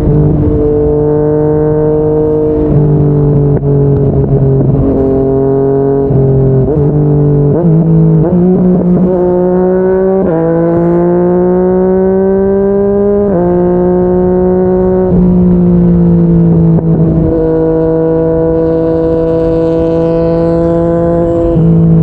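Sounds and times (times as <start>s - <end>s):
gear changes: 0.0s - 22.0s
motorcycle engine at speed: 0.0s - 22.0s.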